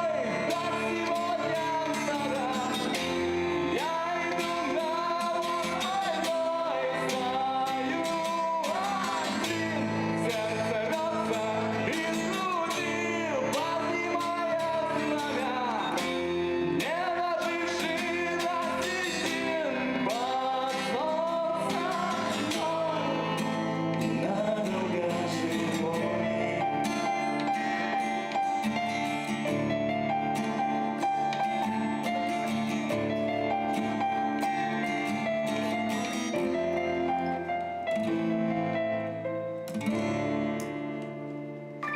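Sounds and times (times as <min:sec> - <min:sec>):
person singing: 0:00.0 - 0:39.4, 0:40.1 - 0:41.9
guitar accompaniment: 0:00.0 - 0:41.9.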